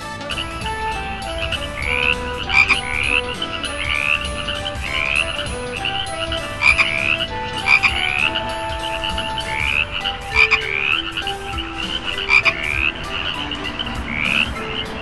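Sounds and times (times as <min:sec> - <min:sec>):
frog croaking: 0:00.4 - 0:15.0.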